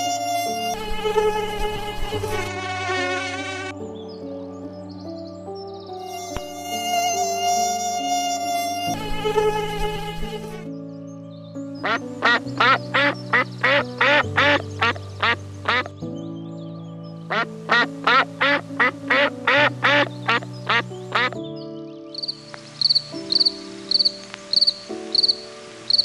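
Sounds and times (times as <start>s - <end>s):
background music chords: 0.0s - 26.0s.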